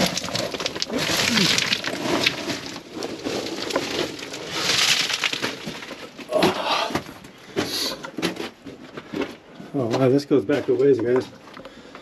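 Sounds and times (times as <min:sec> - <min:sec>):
stones knocking underfoot: 0:00.0 - 0:12.0.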